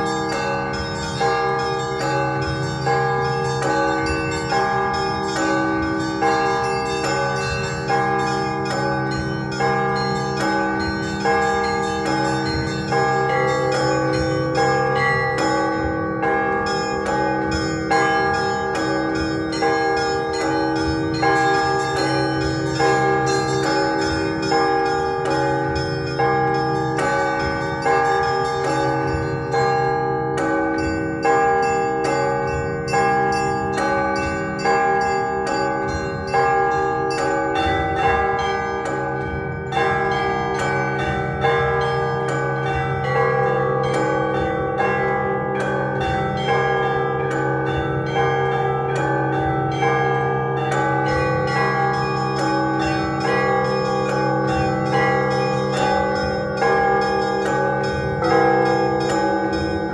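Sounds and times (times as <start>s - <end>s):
middle bells chiming: 0.0s - 59.9s
small bells struck rapidly: 0.0s - 59.9s.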